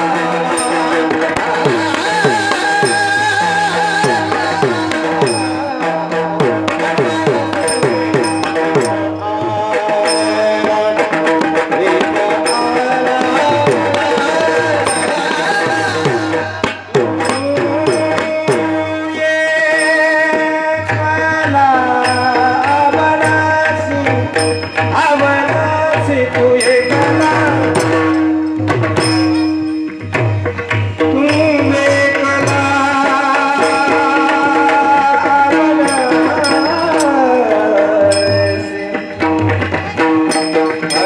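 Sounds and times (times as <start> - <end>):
sustained devotional melody: 0.0 - 41.0.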